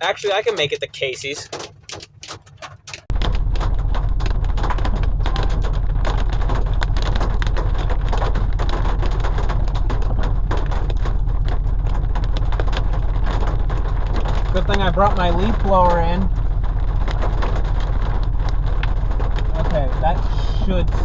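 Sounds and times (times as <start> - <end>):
rain and hail on truck: 0.0 - 21.0
steady low rumble: 0.0 - 21.0.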